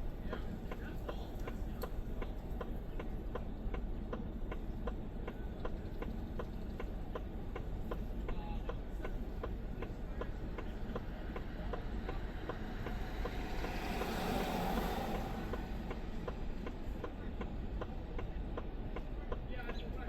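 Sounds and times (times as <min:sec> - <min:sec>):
low steady rumble: 0:00.0 - 0:20.0
steady ticking: 0:00.2 - 0:20.0.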